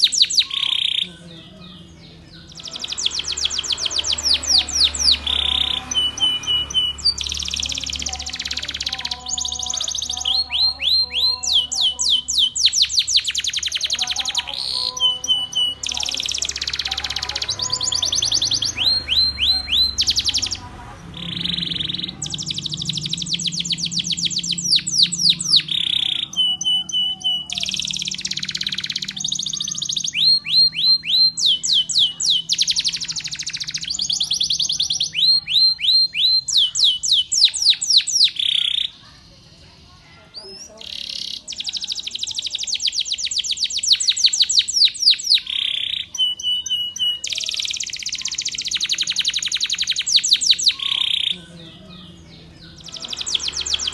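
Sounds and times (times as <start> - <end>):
canary singing: 0.0 - 53.9.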